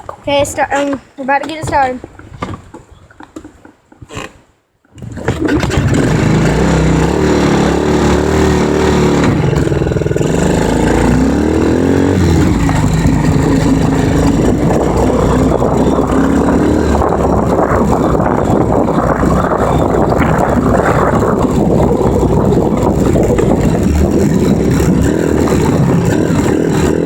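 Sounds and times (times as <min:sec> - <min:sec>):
dirt bike engine revving: 0:05.0 - 0:27.0.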